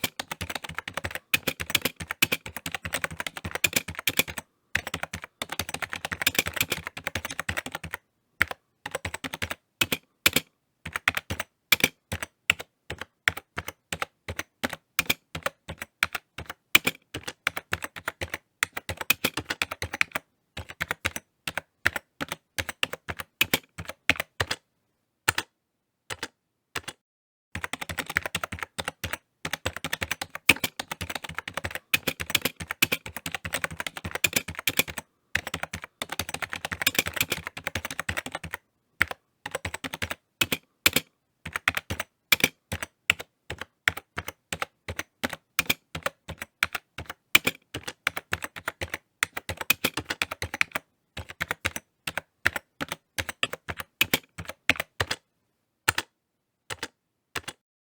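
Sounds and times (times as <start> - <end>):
computer keyboard typing: 0.0 - 24.6, 25.3 - 25.5, 26.1 - 27.0, 27.6 - 55.2, 55.9 - 57.6.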